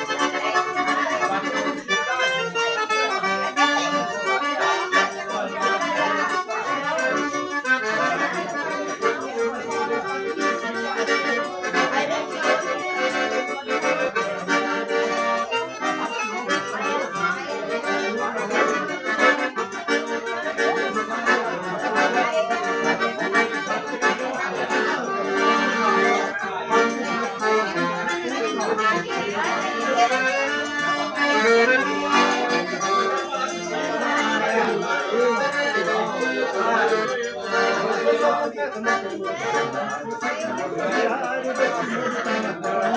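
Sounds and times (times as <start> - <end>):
accordion playing: 0.0 - 42.9.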